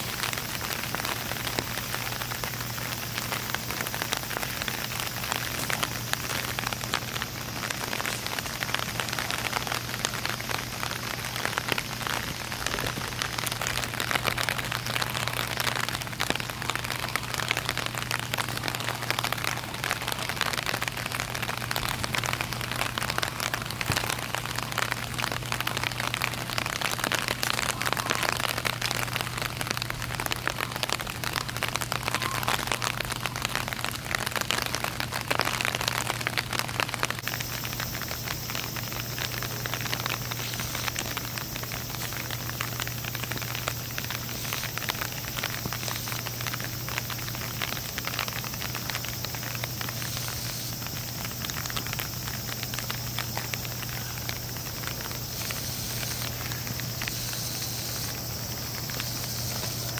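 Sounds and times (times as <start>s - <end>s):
crackling hiss of fine ticks: 0.0s - 59.9s.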